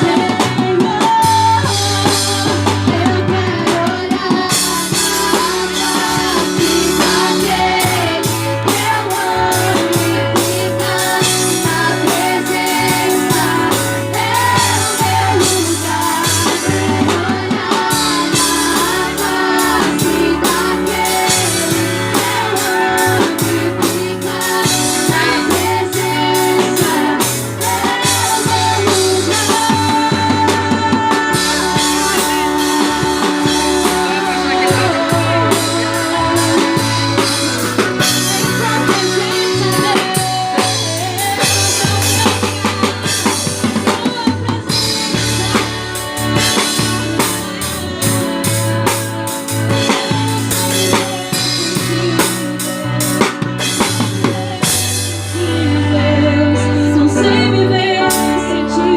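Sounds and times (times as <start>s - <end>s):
band playing a steady groove: 0.0s - 58.9s.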